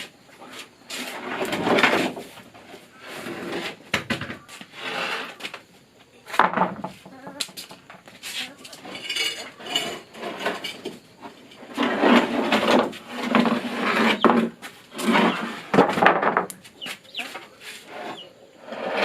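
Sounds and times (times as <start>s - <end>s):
hand tool scraping wood: 0.4s - 3.8s, 4.5s - 5.6s, 7.6s - 19.0s.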